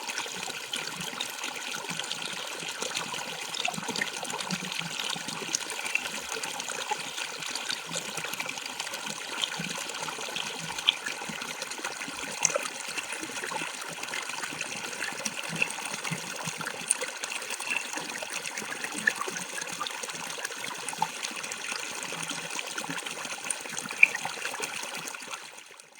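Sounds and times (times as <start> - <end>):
water splashing in a stream: 0.0 - 25.9
water drips: 0.3 - 25.3.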